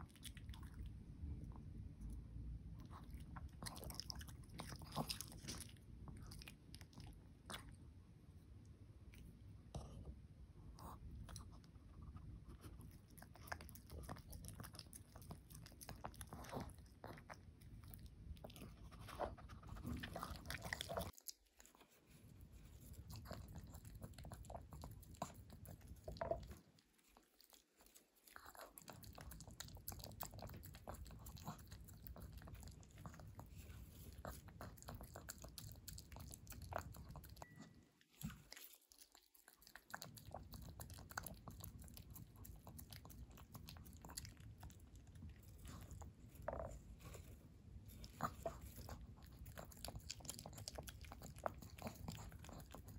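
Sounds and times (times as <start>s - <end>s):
dog chewing and smacking: 0.0s - 8.0s, 10.7s - 52.9s.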